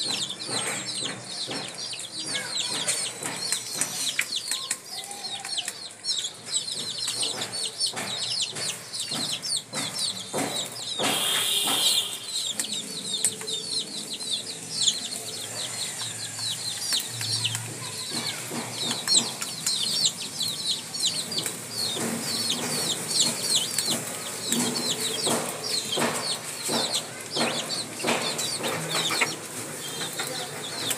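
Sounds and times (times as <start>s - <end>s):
baby chicks peeping: 0.0s - 30.9s
beaks pecking on hard floor: 0.0s - 30.9s
hen clucking: 0.0s - 30.9s.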